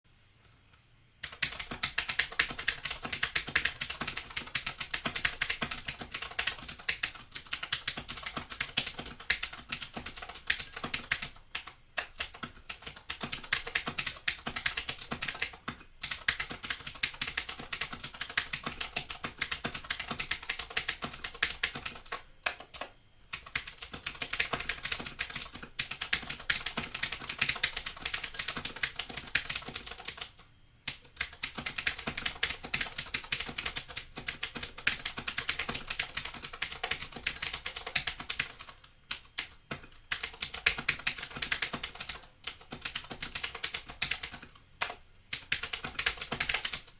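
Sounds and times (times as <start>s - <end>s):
mechanical keyboard typing: 1.2s - 46.9s.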